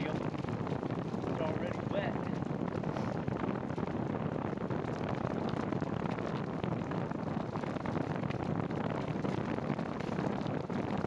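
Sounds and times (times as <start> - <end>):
rain on microphone: 0.0 - 11.0
wind on microphone: 0.0 - 11.0.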